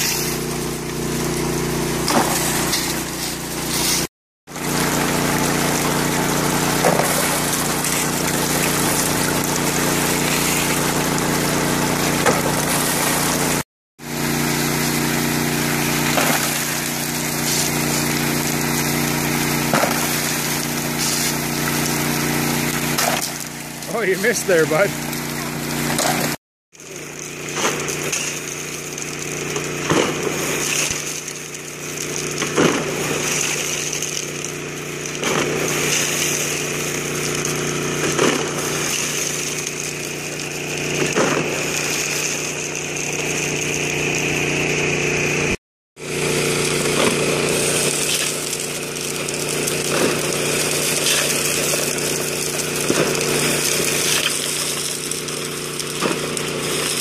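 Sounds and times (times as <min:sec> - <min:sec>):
water pump engine humming: 0:00.0 - 0:57.0.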